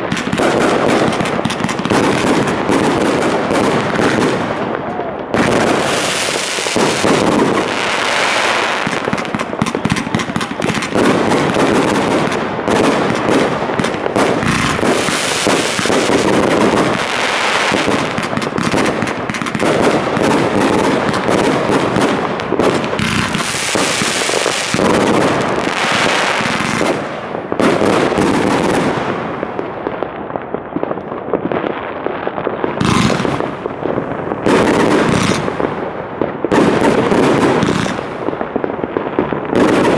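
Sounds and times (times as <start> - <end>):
firework cakes firing: 0.0 - 39.9.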